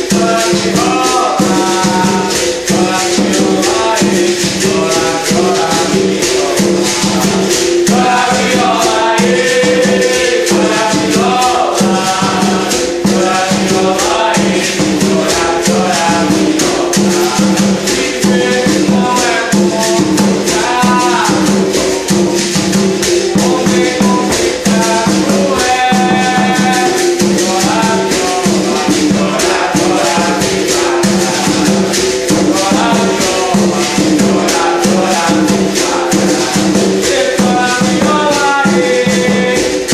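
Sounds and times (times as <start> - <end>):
hand drum beat: 0.0 - 39.9
shaker rattle: 0.0 - 39.9.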